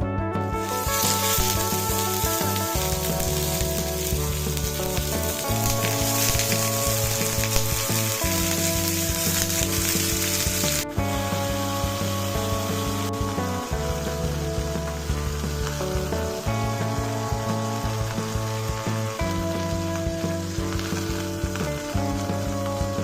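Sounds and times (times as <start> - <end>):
food sizzling in hot oil: 0.6 - 23.0.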